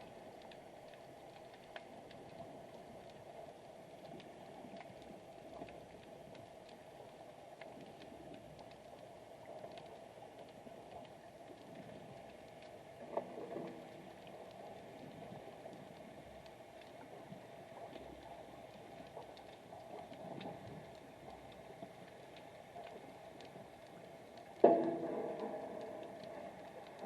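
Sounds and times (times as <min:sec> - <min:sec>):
muffled underwater hiss: 0:00.0 - 0:27.0.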